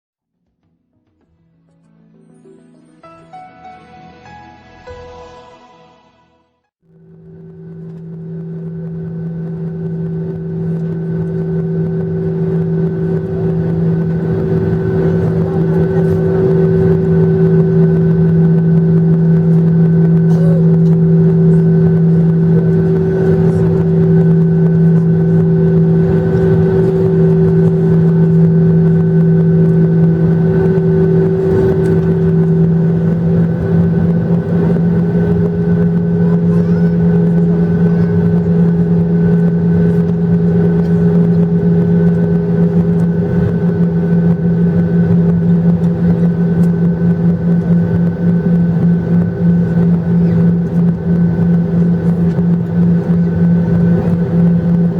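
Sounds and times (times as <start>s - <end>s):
jet engines droning: 6.9s - 54.9s.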